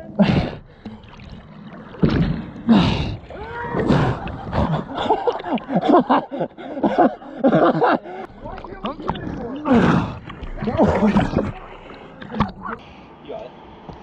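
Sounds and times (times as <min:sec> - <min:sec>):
water splashing and lapping: 0:00.0 - 0:14.0.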